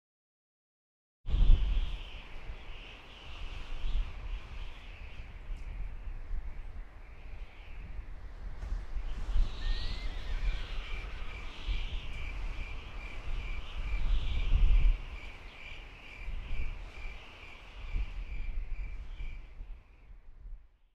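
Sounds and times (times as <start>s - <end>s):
low wind rumble: 1.3s - 20.9s.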